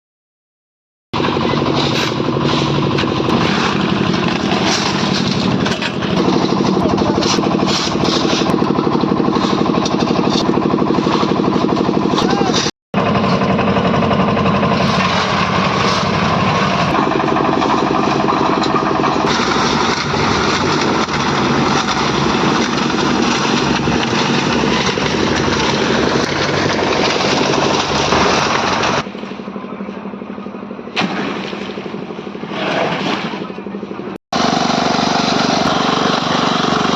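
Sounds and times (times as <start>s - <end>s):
construction machine engine running: 1.2s - 36.9s.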